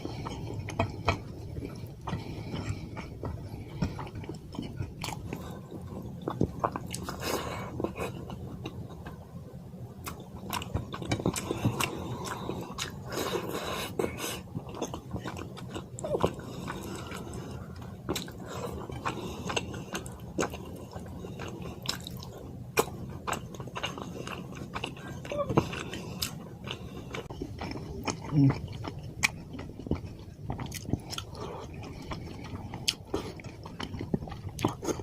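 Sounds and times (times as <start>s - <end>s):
wet chewing and lip-smacking: 0.0s - 9.2s, 10.0s - 35.0s
steady low hum: 0.0s - 35.0s.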